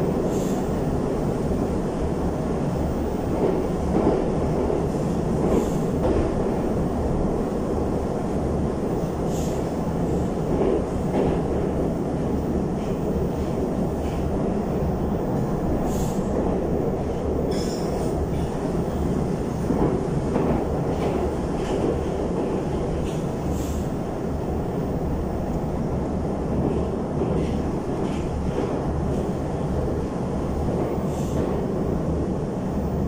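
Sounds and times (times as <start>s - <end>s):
high squeals of train: 0.0s - 7.6s, 8.8s - 24.2s, 26.7s - 33.0s
train rumbling through tunnel: 0.0s - 33.0s.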